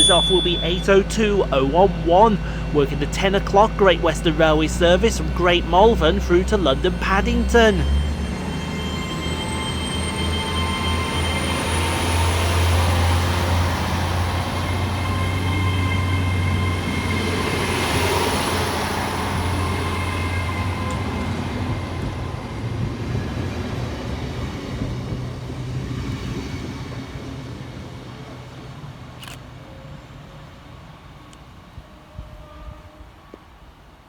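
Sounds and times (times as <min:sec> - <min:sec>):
high whine of traction equipment: 0:00.0 - 0:28.9
train diesel engine hum: 0:00.0 - 0:34.0.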